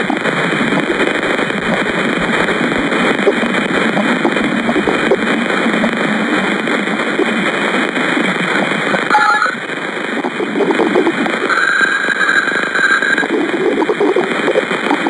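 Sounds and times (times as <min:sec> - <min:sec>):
crackling static: 0:00.0 - 0:15.0.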